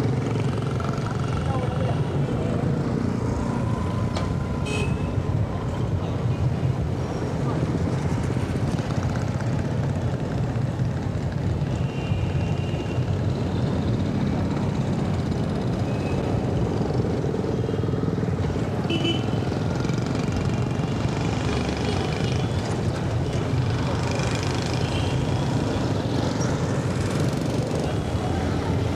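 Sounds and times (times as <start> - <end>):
passing traffic rumble: 0.0 - 28.9.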